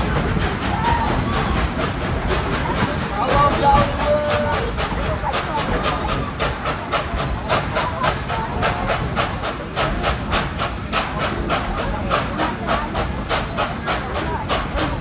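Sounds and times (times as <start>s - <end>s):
rumble of train cars: 0.0s - 15.0s
steam locomotive chuffing: 0.0s - 15.0s.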